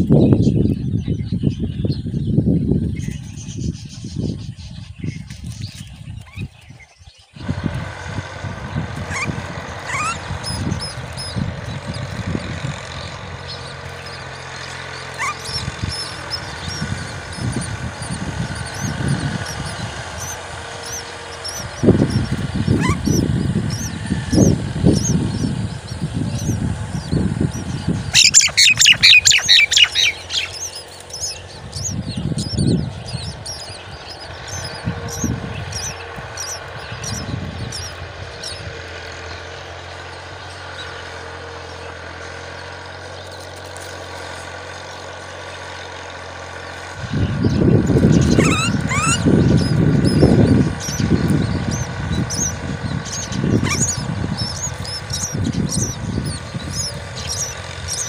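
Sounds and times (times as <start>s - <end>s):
nestlings chirping: 0.0s - 58.0s.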